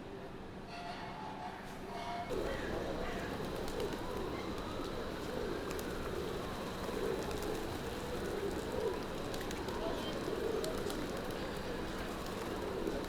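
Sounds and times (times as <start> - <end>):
pigeons cooing: 2.3 - 13.0.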